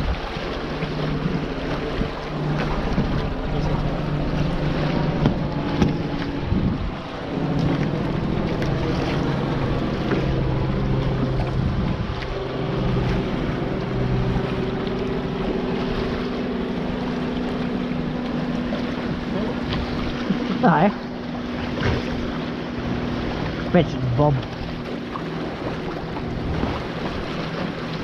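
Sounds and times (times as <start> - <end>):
steady low hum: 0.0 - 28.0
water rushing past hulls: 0.0 - 28.0
wind buffeting microphone: 0.0 - 28.0.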